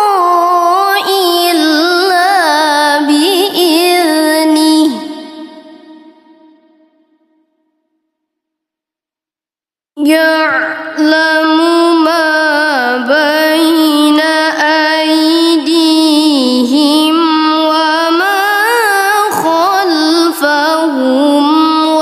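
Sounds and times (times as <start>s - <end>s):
person reciting in melodic voice: 0.0s - 6.1s, 10.0s - 22.0s.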